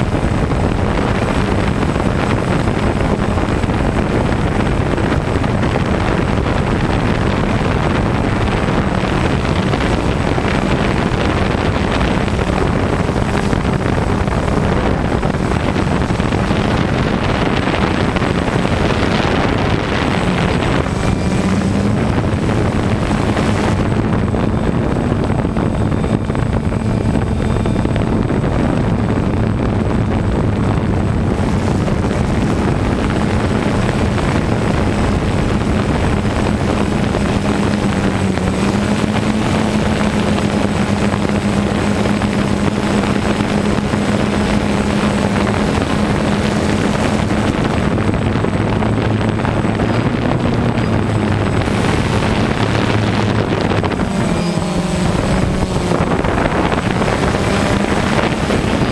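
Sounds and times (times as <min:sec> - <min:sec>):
drone propellers buzzing: 0:00.0 - 0:58.9
wind rushing over camera: 0:00.0 - 0:58.9.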